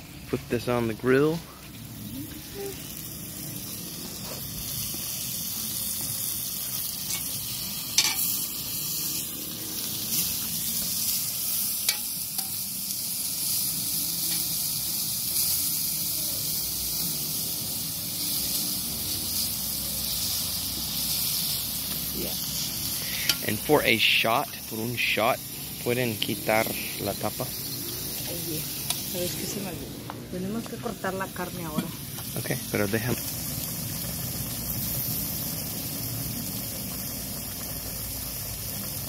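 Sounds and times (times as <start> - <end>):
meat sizzling on a griddle: 0.0 - 39.0.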